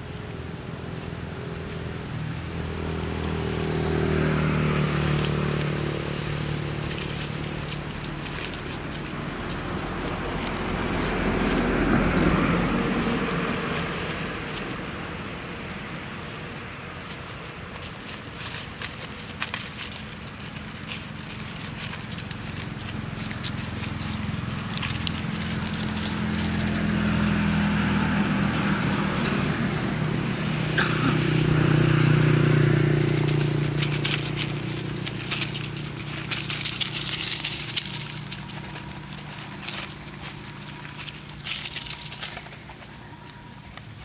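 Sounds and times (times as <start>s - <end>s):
dry leaves crackling: 0.0s - 44.0s
passing vehicle engine hum: 0.0s - 44.0s.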